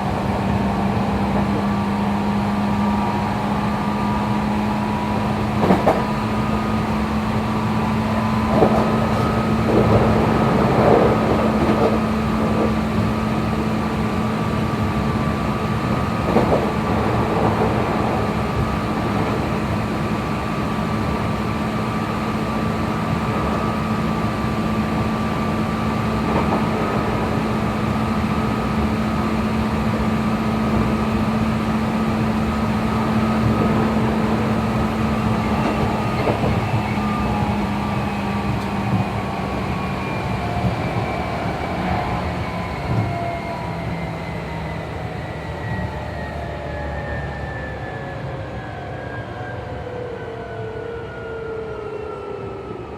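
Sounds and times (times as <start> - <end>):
train wheels rumbling: 0.0 - 47.9
train motor whine: 0.0 - 48.8.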